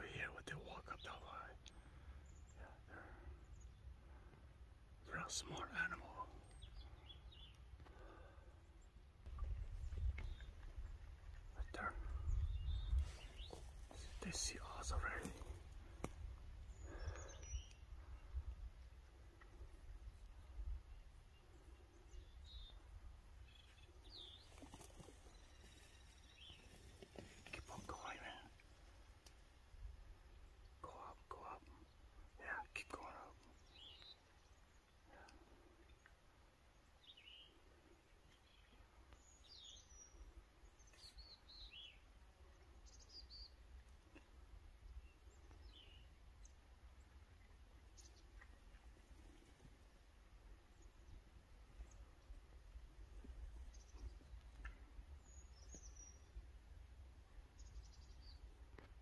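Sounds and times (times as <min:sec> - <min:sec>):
faint low wind rumble: 0:00.0 - 0:59.0.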